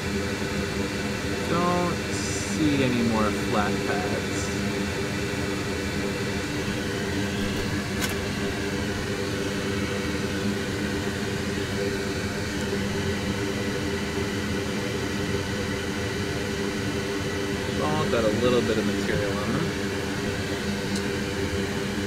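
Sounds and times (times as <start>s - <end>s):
fan humming: 0.8s - 22.0s.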